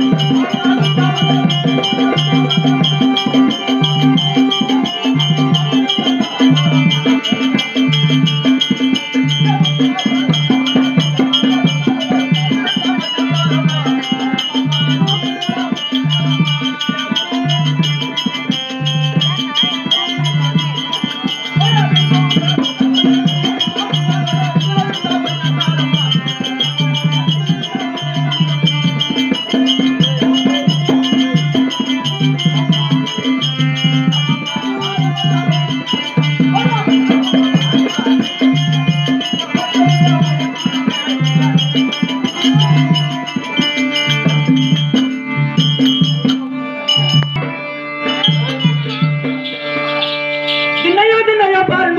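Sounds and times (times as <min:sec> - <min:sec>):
drum beating steady pattern: 0:00.0 - 0:51.9
rattling percussion: 0:00.0 - 0:51.9
sustained melodic tones: 0:00.0 - 0:51.9.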